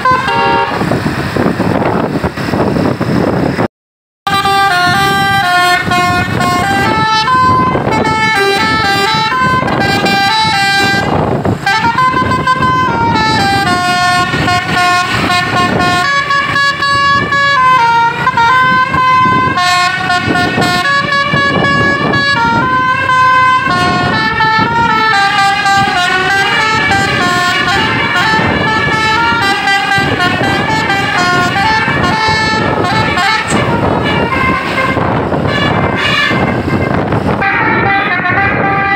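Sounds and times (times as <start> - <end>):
musical bus horn tune: 0.0 - 1.0, 4.3 - 38.9
bus engine: 0.0 - 3.7, 4.3 - 38.9
road noise: 0.0 - 38.9.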